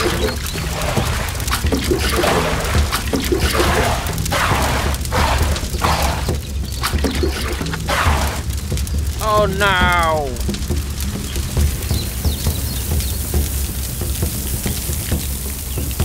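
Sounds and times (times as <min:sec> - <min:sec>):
background music: 0:00.0 - 0:16.0
water pouring and splashing: 0:00.0 - 0:16.0.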